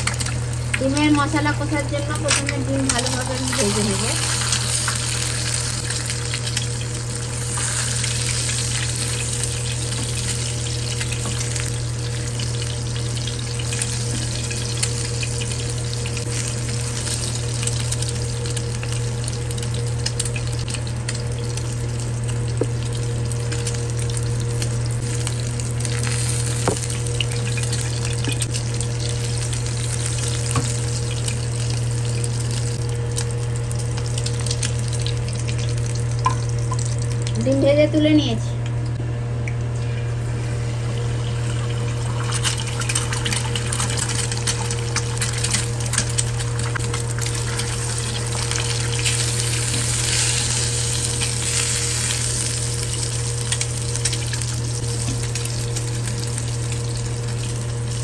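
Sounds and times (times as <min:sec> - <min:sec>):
egg sizzling in a frying pan: 0:00.0 - 0:37.6, 0:39.6 - 0:58.0.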